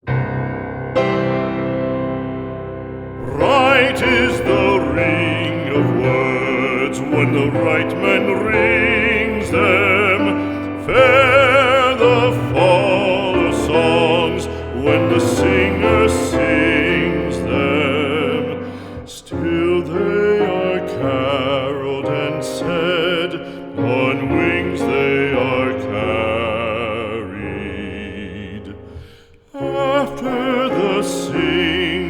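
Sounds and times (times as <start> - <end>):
musical accompaniment: 0.0 - 32.0
operatic singing voice: 3.2 - 32.0.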